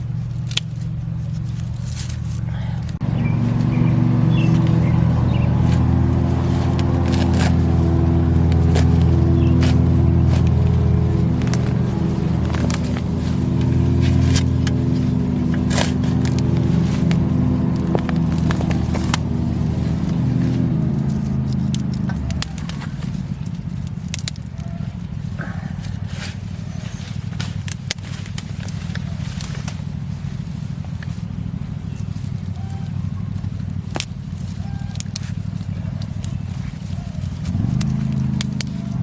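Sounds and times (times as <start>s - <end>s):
crackling scraping clicks: 0.0s - 32.6s, 33.2s - 39.0s
engine running: 0.0s - 39.0s.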